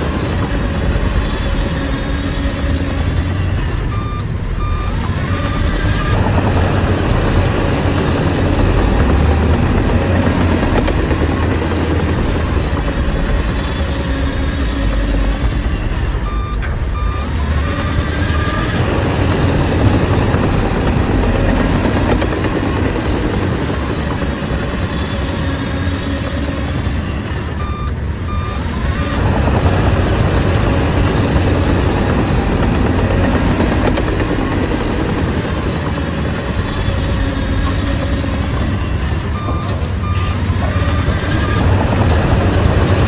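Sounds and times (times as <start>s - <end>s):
bulldozer diesel engine under load: 0.0s - 43.0s
reversing alarm beeping: 0.0s - 43.0s.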